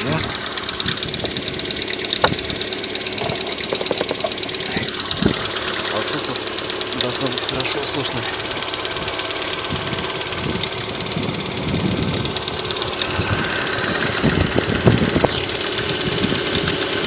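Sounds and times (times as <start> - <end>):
car engine running: 0.0 - 17.0
valve lifters ticking: 0.0 - 17.0.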